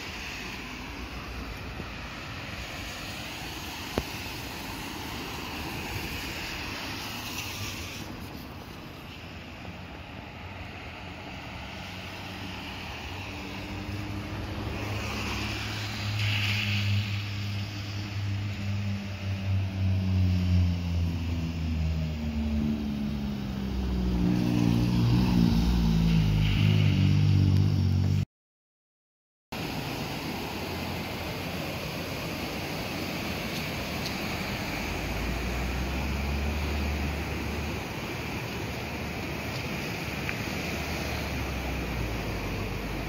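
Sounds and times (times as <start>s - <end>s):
tyre hiss on wet road: 0.0s - 27.7s, 29.6s - 43.0s
river rushing: 0.0s - 28.0s, 29.6s - 43.0s
cars driving past: 0.0s - 28.2s, 29.6s - 43.0s.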